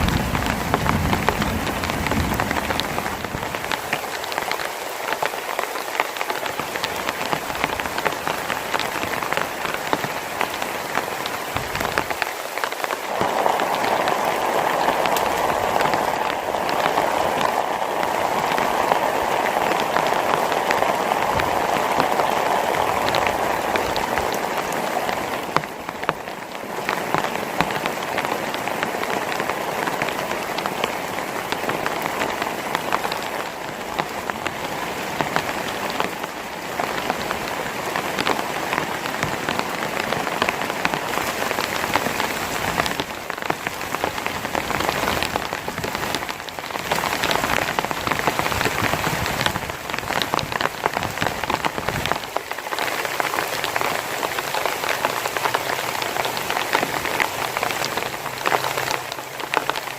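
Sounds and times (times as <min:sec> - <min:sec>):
heavy rain falling: 0:00.0 - 0:59.9
raindrops hitting a surface: 0:00.0 - 0:59.9.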